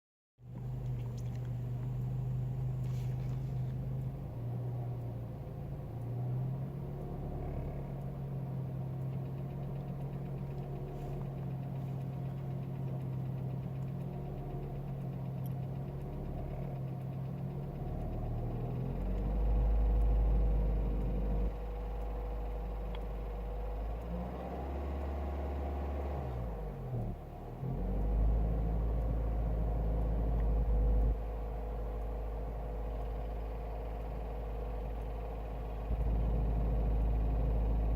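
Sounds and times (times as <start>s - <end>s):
car engine running: 0.4s - 37.9s
knocking rattle from engine: 0.4s - 37.9s.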